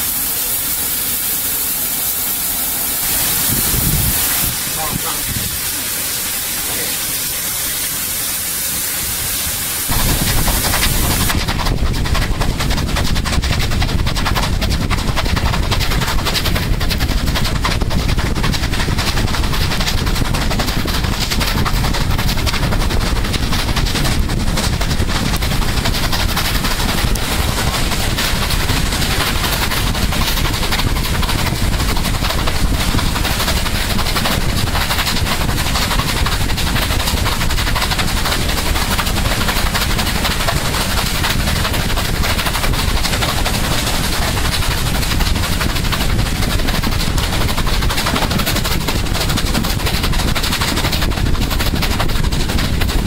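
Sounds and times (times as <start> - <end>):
steam locomotive exhaust beats: 0.0 - 53.0
train rumbling and rattling: 0.0 - 53.0
wind rushing over microphone: 3.1 - 53.0.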